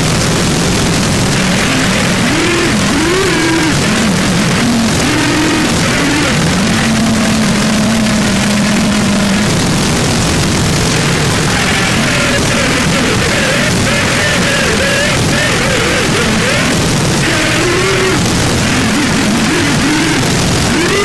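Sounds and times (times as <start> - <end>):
distorted static noise: 0.0 - 21.0.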